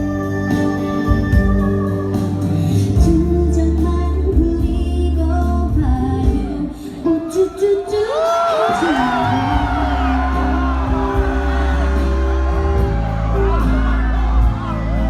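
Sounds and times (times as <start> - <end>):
musical accompaniment: 0.0 - 7.4, 8.7 - 15.0
woman singing live: 0.0 - 15.0.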